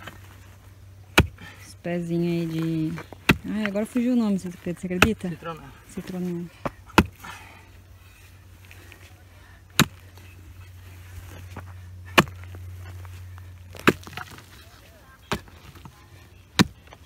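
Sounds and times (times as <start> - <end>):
mattock striking stony soil: 0.0 - 7.6, 8.4 - 17.0.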